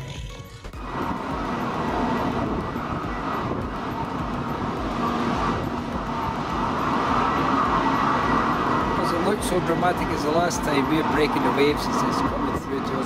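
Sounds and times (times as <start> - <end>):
storm wind roaring: 0.8 - 13.0.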